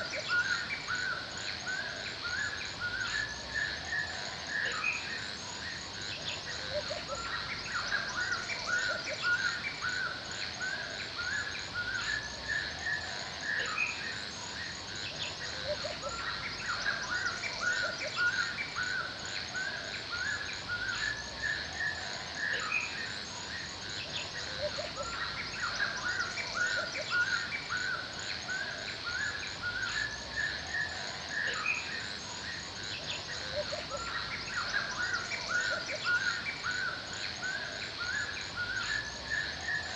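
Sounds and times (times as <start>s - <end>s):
insects humming: 0.0s - 39.9s
songbirds chirping: 0.0s - 39.9s.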